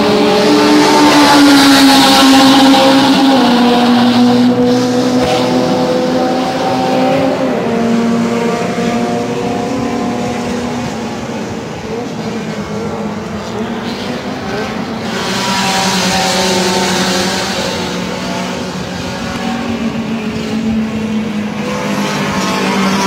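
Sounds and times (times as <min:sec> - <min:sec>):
racing cars passing at speed: 0:00.0 - 0:23.0.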